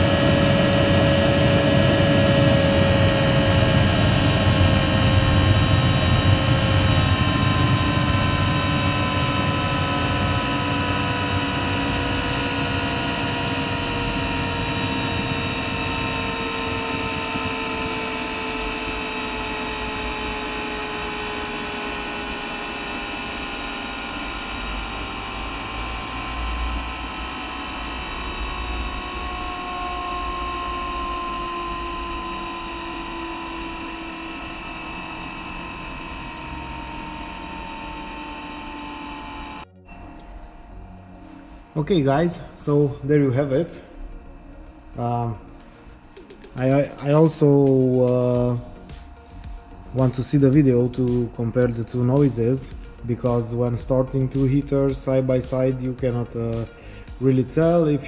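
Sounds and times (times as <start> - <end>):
heater blower fan whining: 0.0 - 58.0
low rumble: 0.0 - 58.0.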